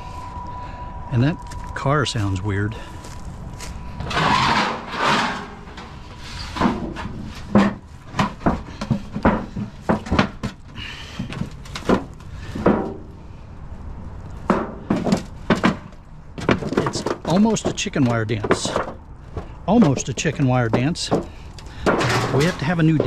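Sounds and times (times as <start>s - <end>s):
scrap metal clanking and rattling: 2.8s - 13.1s, 14.5s - 23.0s.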